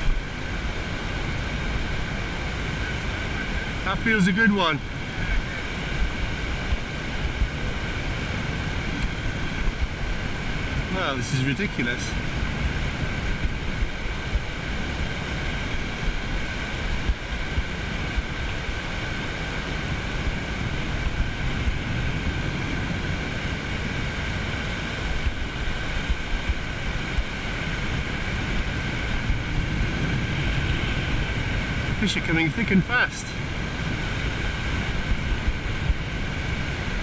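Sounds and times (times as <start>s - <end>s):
small waves washing onto shore: 0.0s - 37.0s
wind buffeting microphone: 0.0s - 37.0s.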